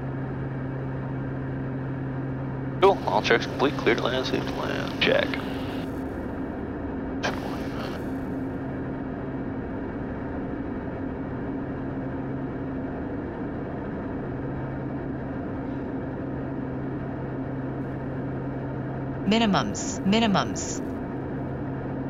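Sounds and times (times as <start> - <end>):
low hum: 0.0 - 22.0
turboprop engines droning: 0.0 - 22.0.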